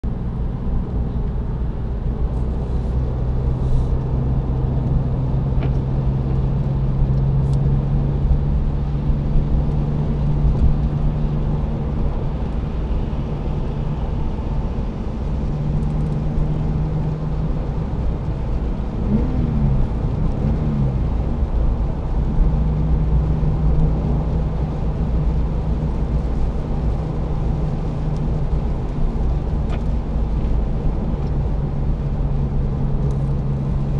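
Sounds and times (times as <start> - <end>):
car engine running: 0.0 - 33.9
road and tyre noise: 0.0 - 33.9.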